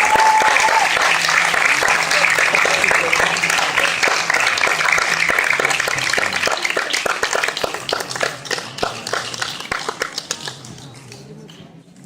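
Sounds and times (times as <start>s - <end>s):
audience applause: 0.0s - 11.2s.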